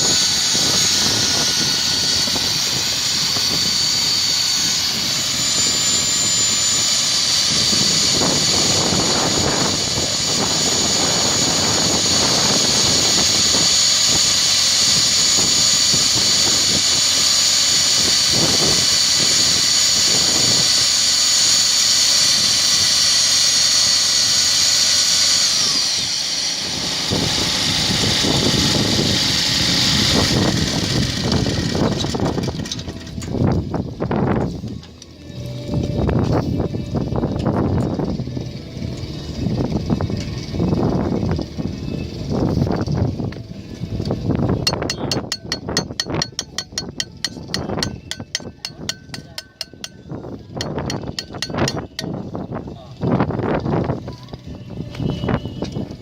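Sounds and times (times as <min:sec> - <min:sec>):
core drill motor whining: 0:00.0 - 0:56.0.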